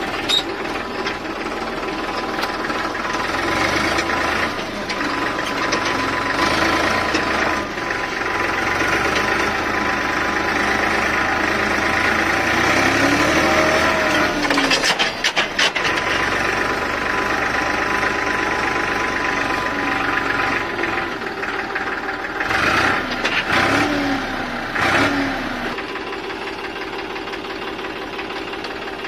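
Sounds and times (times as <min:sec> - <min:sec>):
electric mini tractor running: 0:00.0 - 0:29.0.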